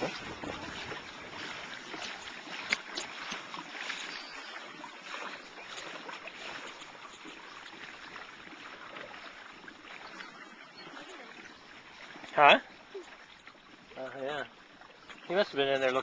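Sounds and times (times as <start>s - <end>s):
water swishing and splashing: 0.0s - 16.0s.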